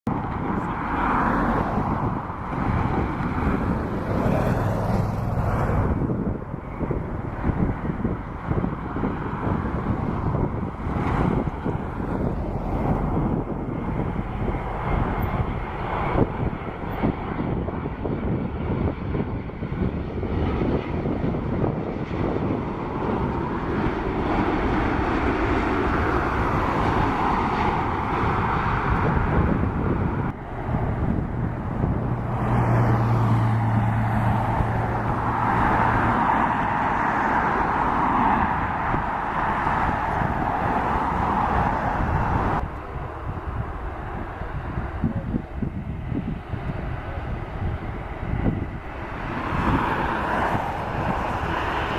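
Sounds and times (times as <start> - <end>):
jet engines rushing: 0.1 - 51.9.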